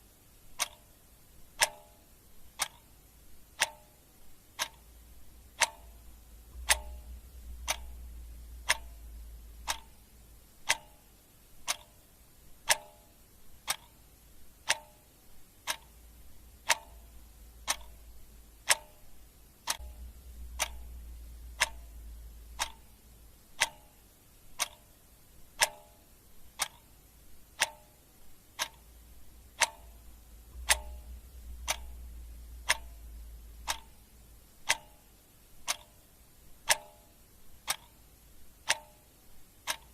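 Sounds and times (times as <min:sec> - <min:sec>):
faint low hum: 0:00.0 - 0:39.9
clock ticking: 0:00.1 - 0:39.9.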